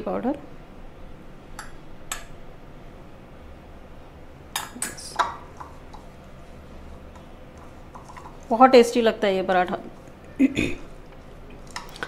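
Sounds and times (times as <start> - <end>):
low steady background hum: 0.0 - 12.0.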